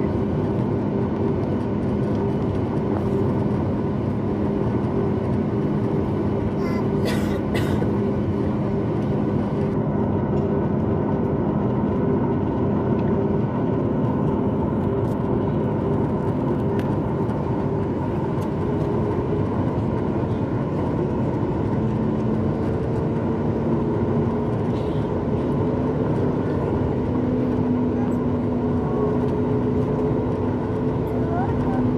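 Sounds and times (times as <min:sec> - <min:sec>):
jet engines roaring in cabin: 0:00.0 - 0:31.9.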